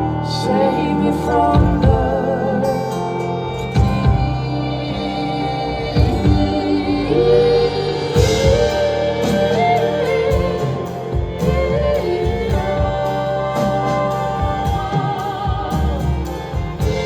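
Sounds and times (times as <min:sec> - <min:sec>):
live band playing folk-pop: 0:00.0 - 0:17.0
woman singing: 0:00.0 - 0:17.0.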